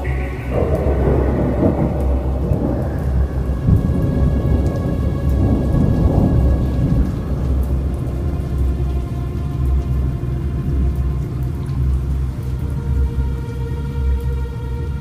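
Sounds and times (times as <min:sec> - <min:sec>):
rolling thunder: 0:00.0 - 0:13.0
heavy rain: 0:00.0 - 0:15.0.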